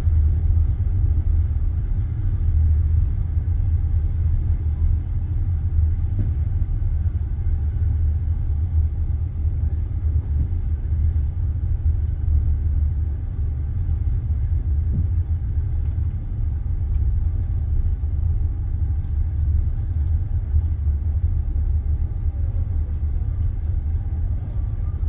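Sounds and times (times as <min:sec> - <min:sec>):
train carriage low rumble: 0:00.0 - 0:25.0.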